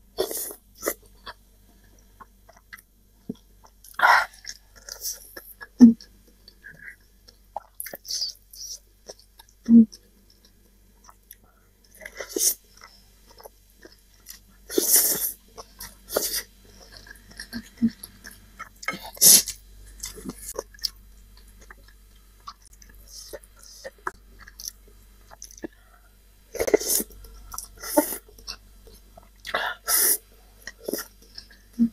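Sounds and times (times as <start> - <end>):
person chewing noodles: 0.1 - 25.8, 26.5 - 31.9.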